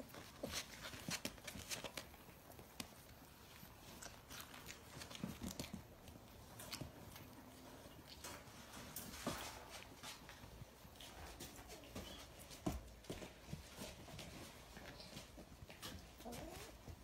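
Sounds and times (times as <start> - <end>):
puppies scuffling and play-biting: 0.0 - 17.0.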